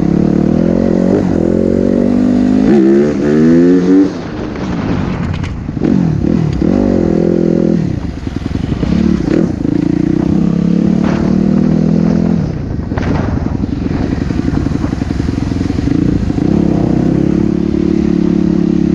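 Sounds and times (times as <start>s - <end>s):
dirt bike engine revving: 0.0s - 4.4s, 5.8s - 18.9s.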